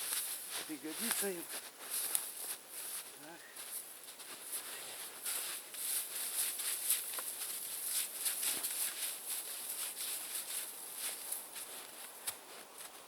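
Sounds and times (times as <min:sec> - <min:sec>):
footsteps crunching through dry twigs: 0:00.0 - 0:13.0.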